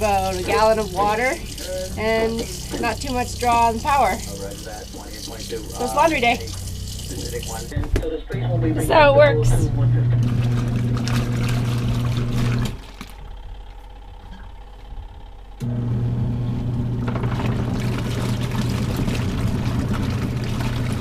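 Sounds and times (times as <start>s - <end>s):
water churning: 0.0s - 7.9s, 10.0s - 14.9s, 16.7s - 21.0s
washing machine motor humming: 0.0s - 21.0s.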